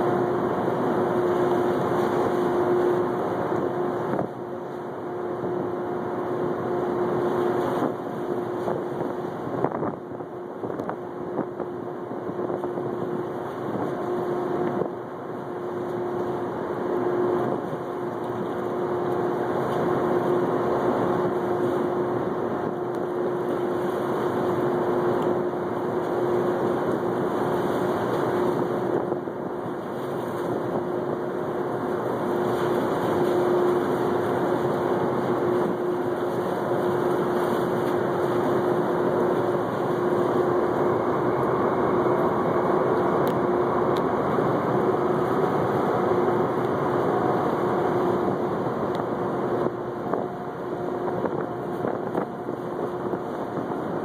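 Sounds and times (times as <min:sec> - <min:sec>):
boat engine droning: 0:00.0 - 0:54.0
water noise: 0:00.0 - 0:54.0
wind noise: 0:00.0 - 0:54.0.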